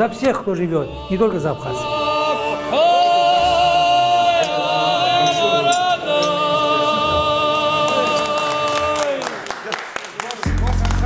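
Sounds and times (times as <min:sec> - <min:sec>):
group singing a cappella: 0:00.0 - 0:09.2.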